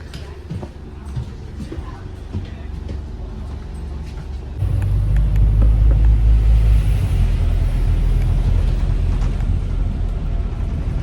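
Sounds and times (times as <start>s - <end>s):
boat engine rumbling: 0.3s - 11.0s.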